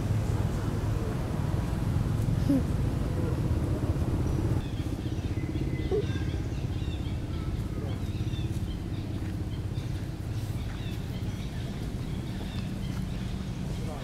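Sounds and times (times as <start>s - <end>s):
low motor rumble: 0.0s - 14.0s.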